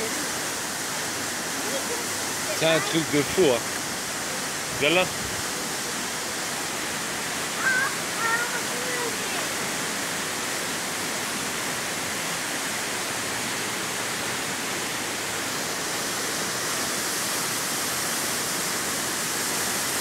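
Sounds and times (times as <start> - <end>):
seawater rushing in a cave: 0.0 - 20.0.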